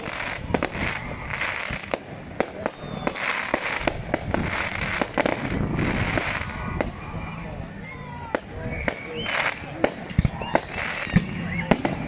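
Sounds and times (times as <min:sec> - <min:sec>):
fireworks cracking and popping: 0:00.0 - 0:07.4, 0:08.3 - 0:12.0
steady hiss: 0:00.0 - 0:12.0.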